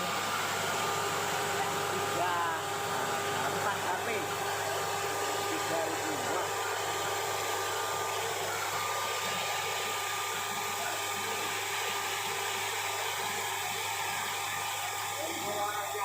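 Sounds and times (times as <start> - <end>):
electric rice huller running: 0.0 - 16.0.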